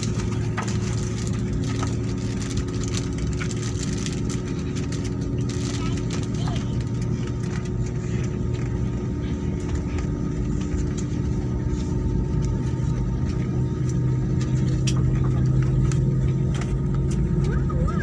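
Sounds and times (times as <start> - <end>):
jet engine drone in cabin: 0.0 - 18.0.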